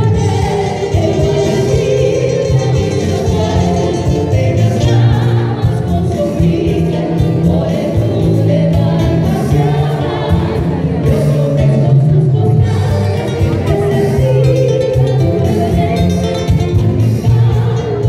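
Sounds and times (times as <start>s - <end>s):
acoustic guitars: 0.0s - 18.0s
keyboard: 0.0s - 18.0s
women singing: 0.0s - 18.0s.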